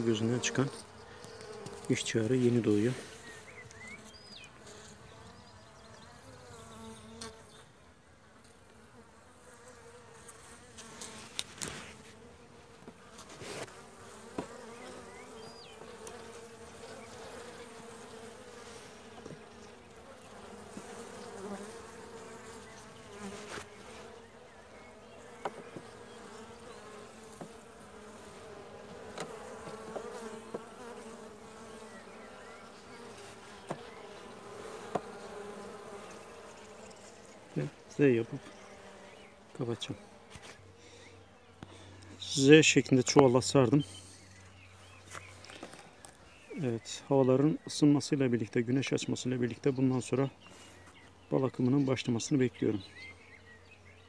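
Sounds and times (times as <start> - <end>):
honey bees buzzing: 0.0 - 54.0.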